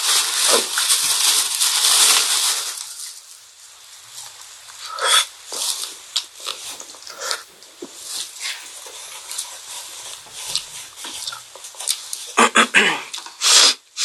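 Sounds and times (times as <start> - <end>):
crunching and chewing wafer cone: 0.0 - 13.8.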